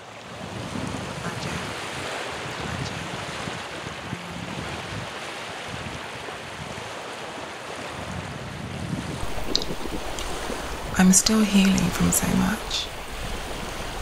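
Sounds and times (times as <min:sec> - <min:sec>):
waves washing up pebble shore: 0:00.0 - 0:14.0.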